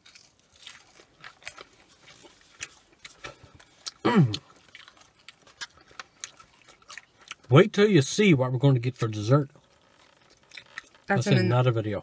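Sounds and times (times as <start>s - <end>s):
crunchy chewing: 0.0s - 7.6s, 8.9s - 11.2s.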